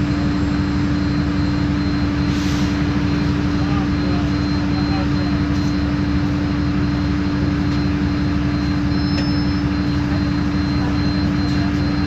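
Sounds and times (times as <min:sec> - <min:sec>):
diesel bus engine droning: 0:00.0 - 0:12.0
drivetrain whine: 0:00.0 - 0:12.0.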